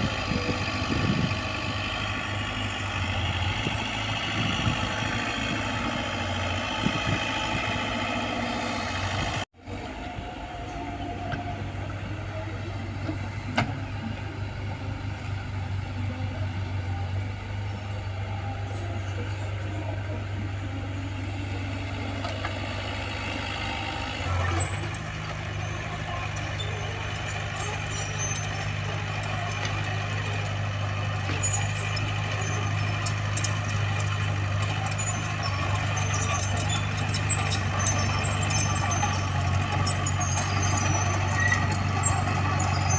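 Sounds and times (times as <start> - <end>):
diesel machinery engine running: 0.0 - 42.9.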